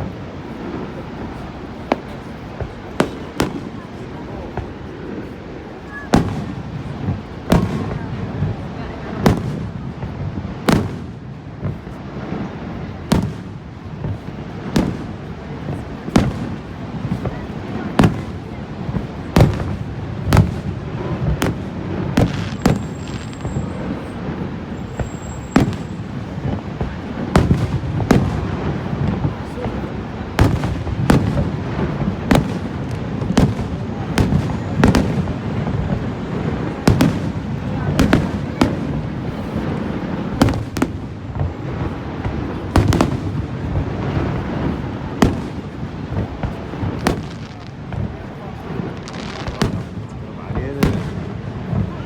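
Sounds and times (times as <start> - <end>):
fireworks bangs: 0.0 - 52.0.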